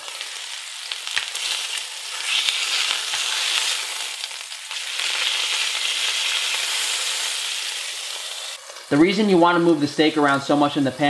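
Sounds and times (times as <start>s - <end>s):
steak sizzling in a pan: 0.0s - 9.7s.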